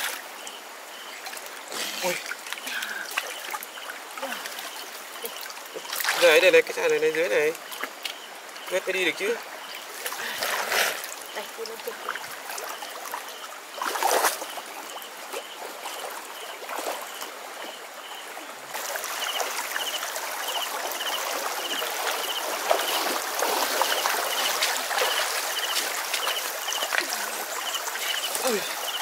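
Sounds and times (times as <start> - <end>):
stream water trickling: 0.0 - 29.0
splash of wading: 1.0 - 6.5, 9.8 - 17.8, 18.7 - 29.0.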